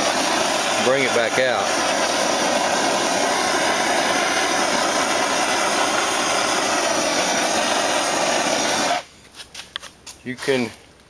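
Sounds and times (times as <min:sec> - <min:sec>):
propane torch hissing: 0:00.0 - 0:09.1.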